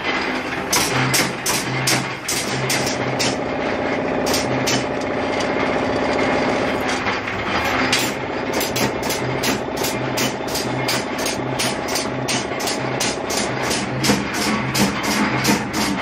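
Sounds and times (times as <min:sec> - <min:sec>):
machinery buzzing hum: 0:00.0 - 0:16.0.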